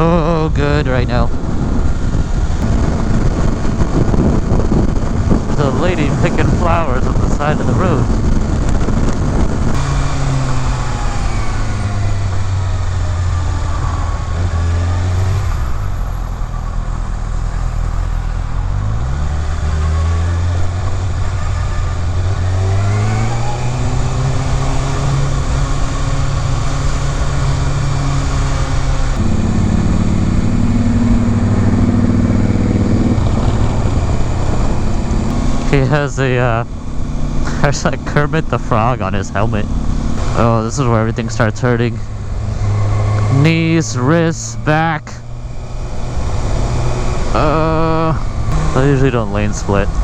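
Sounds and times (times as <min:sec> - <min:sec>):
steady rush of noise: 0:00.0 - 0:21.2, 0:25.0 - 0:50.0
motorcycle engine accelerating: 0:00.0 - 0:50.0.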